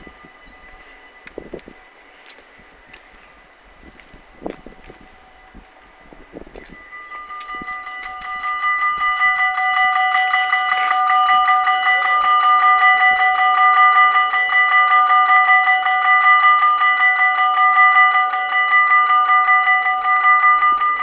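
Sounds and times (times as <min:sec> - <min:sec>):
level-crossing warning bells ringing: 0:00.0 - 0:21.0.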